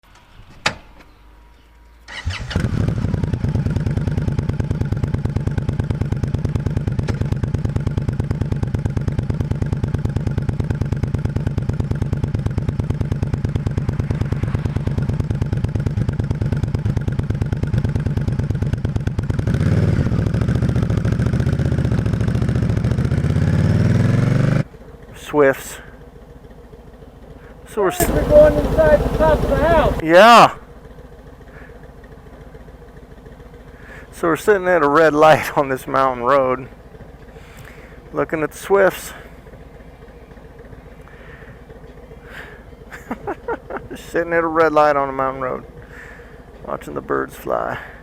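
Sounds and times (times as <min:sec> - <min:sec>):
motorcycle engine idling and revving: 0:02.1 - 0:48.0.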